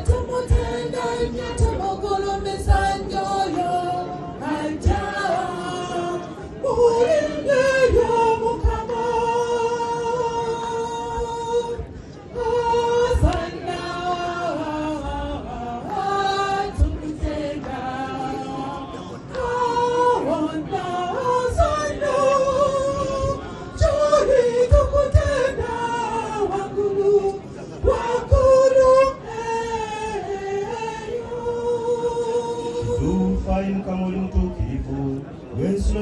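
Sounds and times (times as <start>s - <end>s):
group of voices singing: 0.0s - 36.0s.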